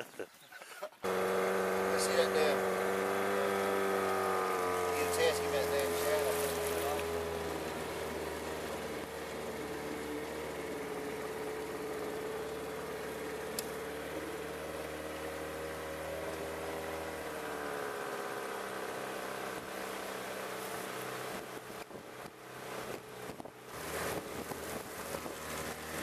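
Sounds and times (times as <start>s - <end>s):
boat outboard motor running: 1.0s - 26.0s.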